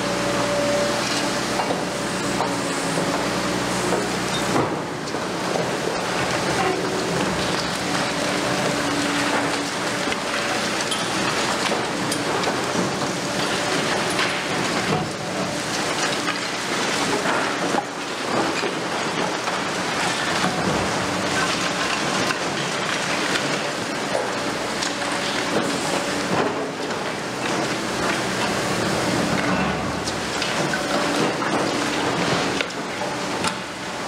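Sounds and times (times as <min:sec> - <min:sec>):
concrete rubble crackling and falling: 0:05.9 - 0:33.8.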